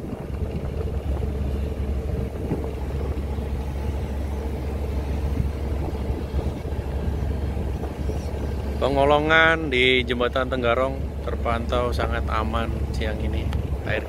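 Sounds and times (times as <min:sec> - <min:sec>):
ship engine droning: 0:00.0 - 0:14.0.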